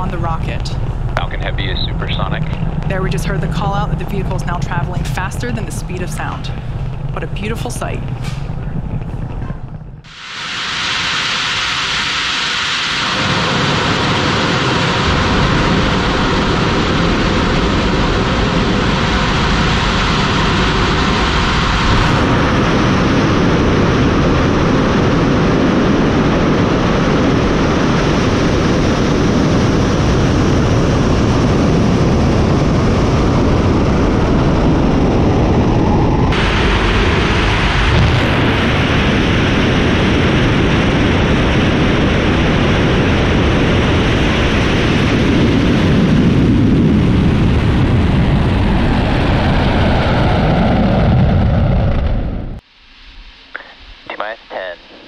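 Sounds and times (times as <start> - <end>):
rocket exhaust roaring: 0.0 - 55.0.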